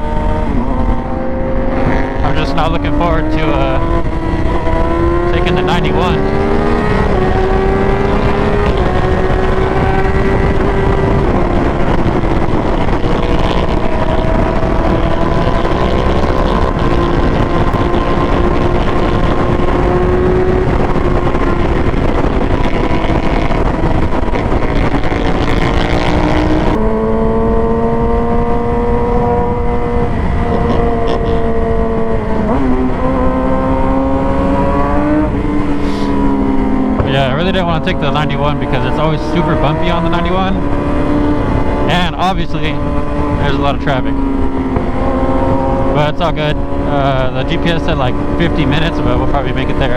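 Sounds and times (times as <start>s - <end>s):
motorcycle engine running: 0.0s - 49.9s
wind rush on microphone: 0.0s - 49.9s.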